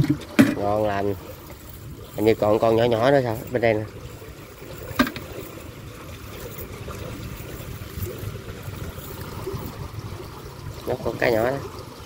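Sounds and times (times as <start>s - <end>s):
water rushing through culvert: 0.0s - 12.0s.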